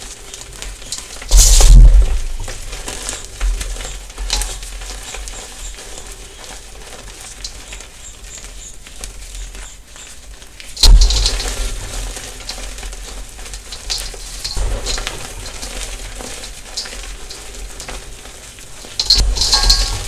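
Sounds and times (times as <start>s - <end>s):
chalk crackling and crumbling: 0.0s - 20.0s.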